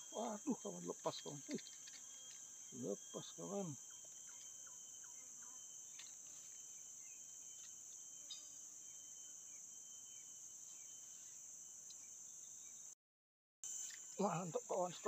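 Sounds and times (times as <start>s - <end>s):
insects shrilling: 0.0s - 12.4s, 13.7s - 15.0s.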